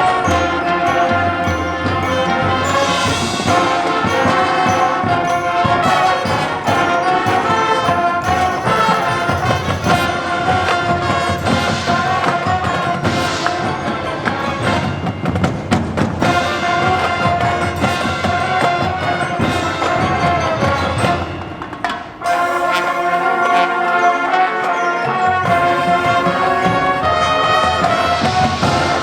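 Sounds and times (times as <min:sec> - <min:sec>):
marching band playing: 0:00.0 - 0:29.0.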